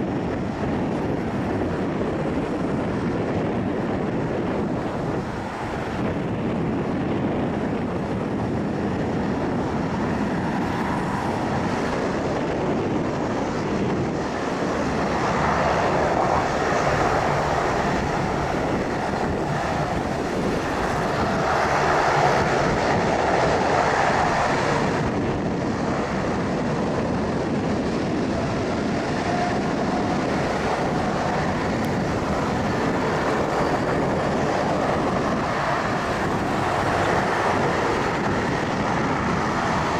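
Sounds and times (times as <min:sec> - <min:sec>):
jet engine roar: 0:00.0 - 0:39.9.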